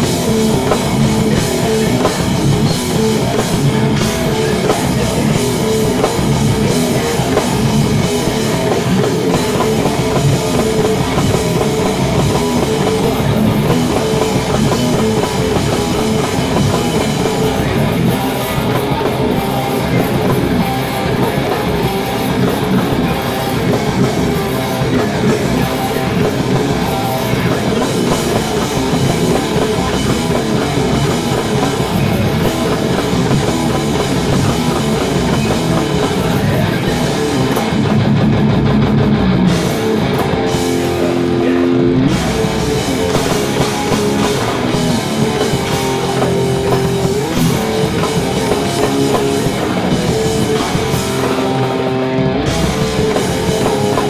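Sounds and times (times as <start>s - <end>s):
heavy metal band playing: 0.0s - 54.0s.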